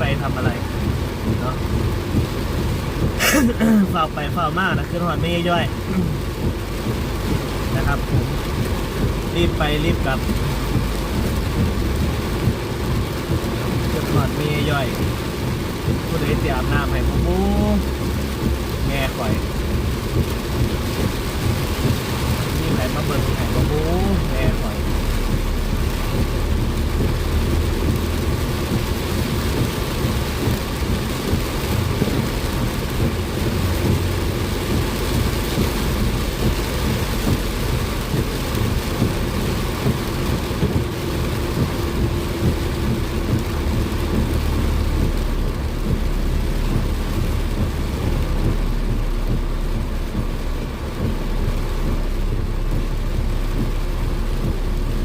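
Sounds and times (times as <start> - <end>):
car rumble: 0.0 - 55.0
heavy rain pounding on a car: 0.0 - 55.0
tyres on a wet road: 0.0 - 55.0.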